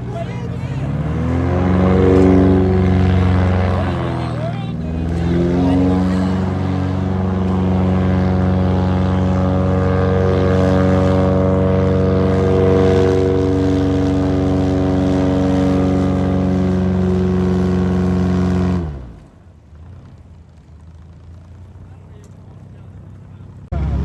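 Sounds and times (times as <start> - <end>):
airboat engine and propeller: 0.0 - 24.0.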